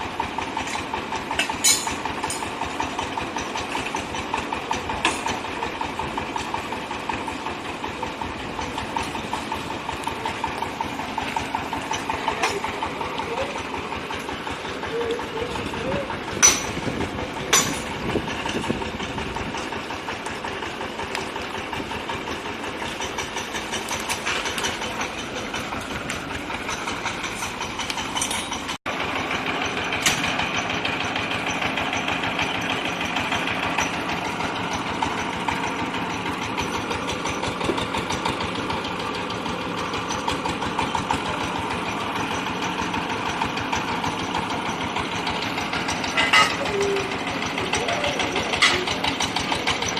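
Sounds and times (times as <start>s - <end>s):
air compressor engine running: 0.0s - 49.9s
air drill hammer knocking: 0.0s - 49.9s.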